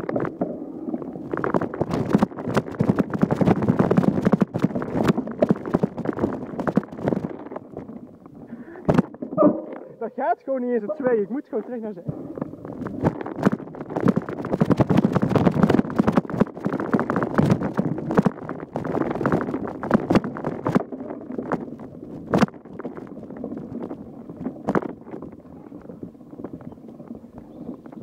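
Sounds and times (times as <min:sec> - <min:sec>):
mountain bike rattling: 0:01.2 - 0:09.7, 0:11.0 - 0:28.0.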